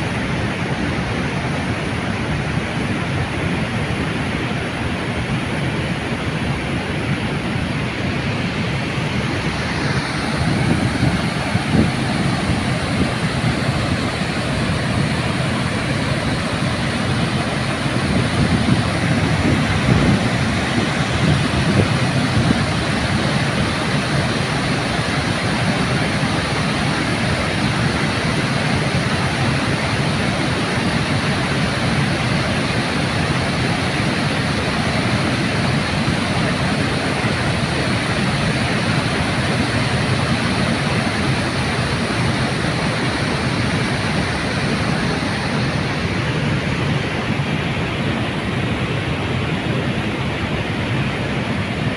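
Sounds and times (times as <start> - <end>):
water rushing over weir: 0.0 - 51.9.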